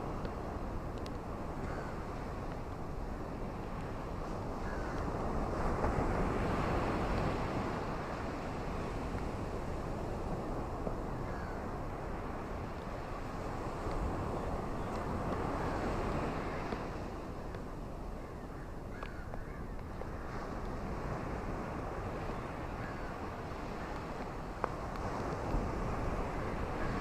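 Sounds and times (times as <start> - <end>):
ocean surf on beach: 0.0 - 27.0.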